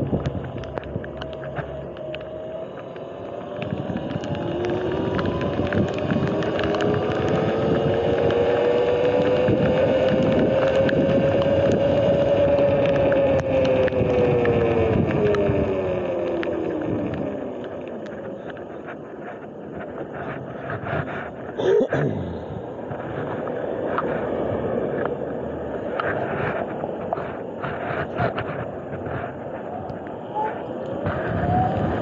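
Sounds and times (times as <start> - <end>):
wind noise on microphone: 0.0 - 32.0.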